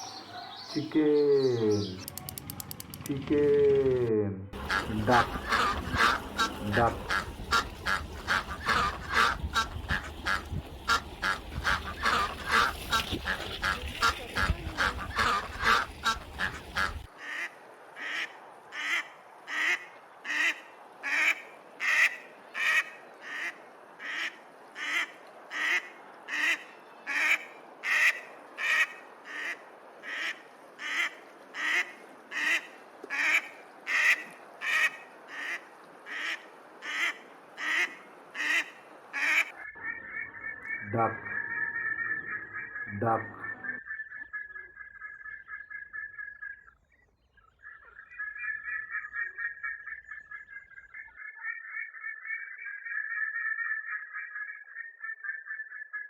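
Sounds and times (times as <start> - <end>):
ducks quacking: 0.0 - 46.6, 47.8 - 56.0
background noise: 0.0 - 56.0.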